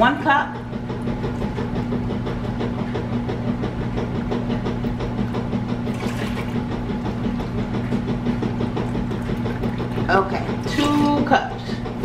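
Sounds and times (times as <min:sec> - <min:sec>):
pressure cooker humming and rattling: 0:00.0 - 0:12.0.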